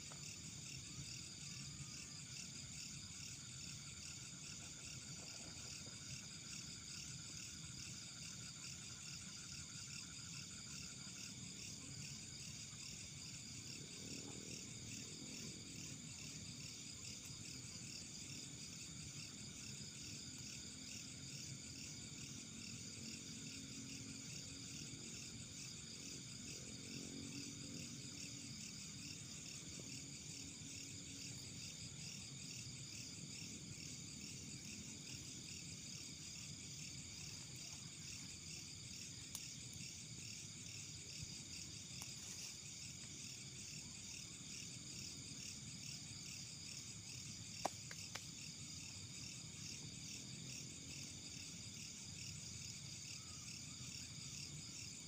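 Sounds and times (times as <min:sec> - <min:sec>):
crickets and insects chirring: 0:00.0 - 0:55.0.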